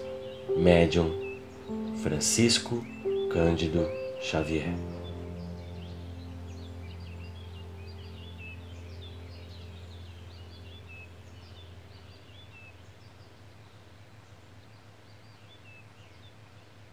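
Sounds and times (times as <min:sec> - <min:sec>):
low music drone: 0:00.0 - 0:14.9
small birds chirping: 0:00.0 - 0:16.9.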